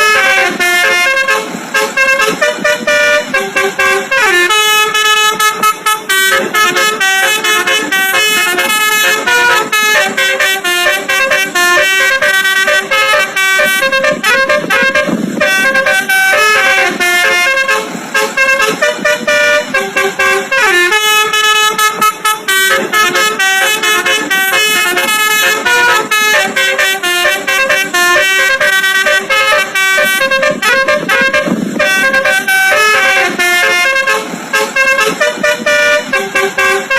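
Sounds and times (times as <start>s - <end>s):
musical bus horn playing a tune: 0.0s - 36.9s.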